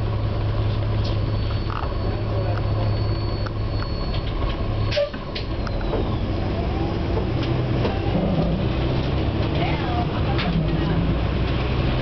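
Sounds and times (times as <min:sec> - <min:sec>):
bus engine drone: 0:00.0 - 0:12.0
road noise: 0:00.0 - 0:12.0
rattles and clicks from bus body: 0:00.5 - 0:02.7, 0:03.4 - 0:06.3, 0:07.0 - 0:12.0.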